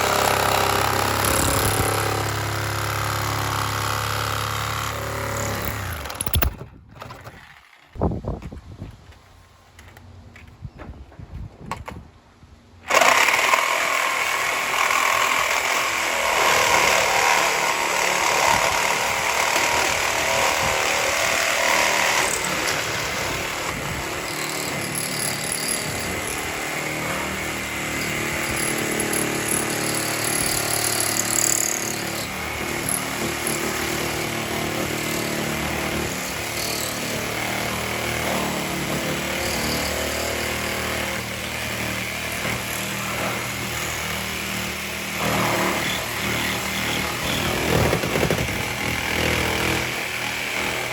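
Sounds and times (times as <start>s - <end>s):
power saw cutting wood: 0.0s - 7.9s, 12.9s - 50.9s.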